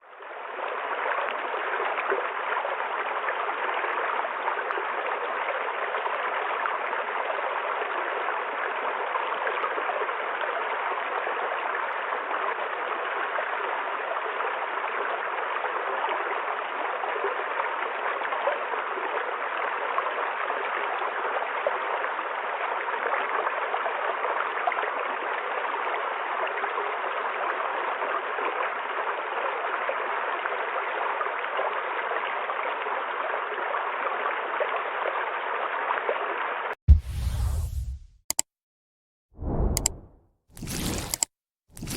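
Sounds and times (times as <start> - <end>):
stream flowing over stones: 0.2 - 36.6, 40.6 - 41.9.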